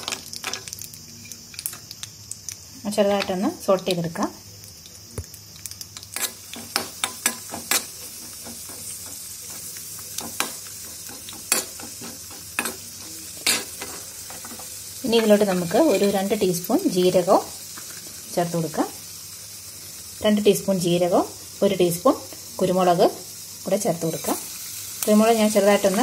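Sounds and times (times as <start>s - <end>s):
nuts sizzling in a pan: 0.0s - 26.0s.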